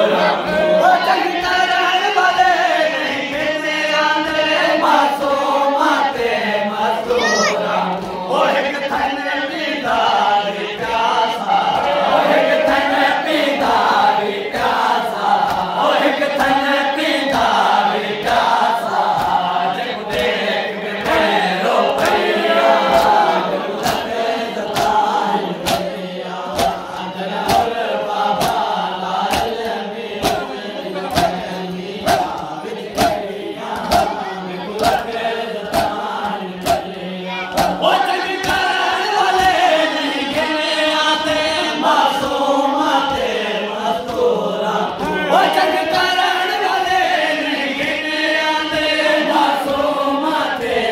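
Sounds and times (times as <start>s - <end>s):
men chanting in chorus: 0.0s - 50.9s
rhythmic chest-beating: 0.0s - 50.9s.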